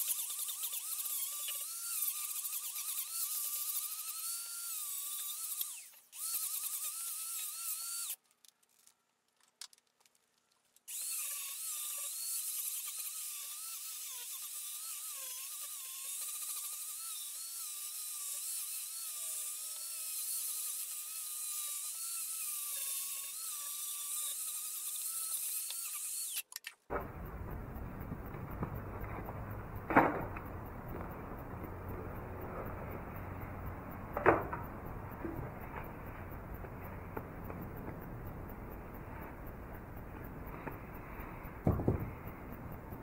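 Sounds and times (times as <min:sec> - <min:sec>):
angle grinder grinding wood: 0:00.0 - 0:08.2, 0:10.9 - 0:39.5.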